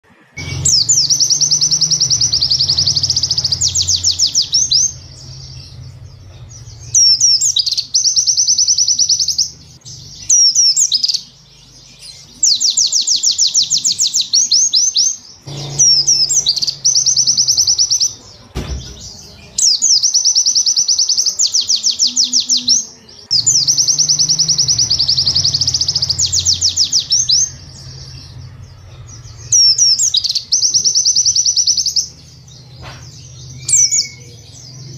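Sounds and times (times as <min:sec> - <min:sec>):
bird chattering song: 0:00.4 - 0:34.9.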